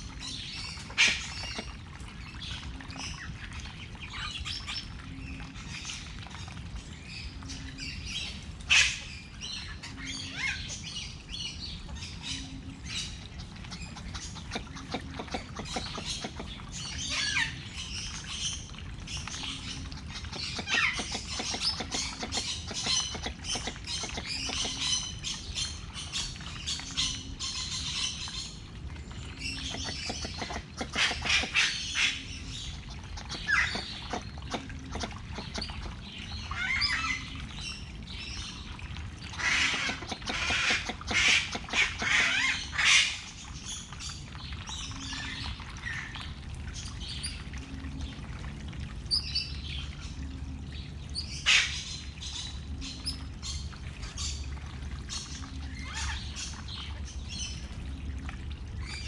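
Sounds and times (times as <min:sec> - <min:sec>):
birds chirping and squawking: 0:00.0 - 0:06.5, 0:07.1 - 0:48.2, 0:49.0 - 0:57.7.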